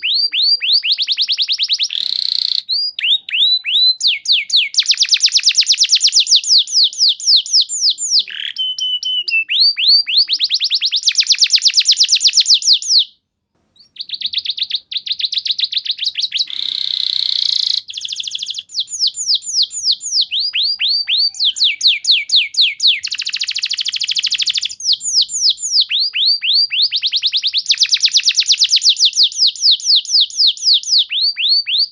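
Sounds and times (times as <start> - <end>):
canary singing fast trills: 0.0 - 31.9.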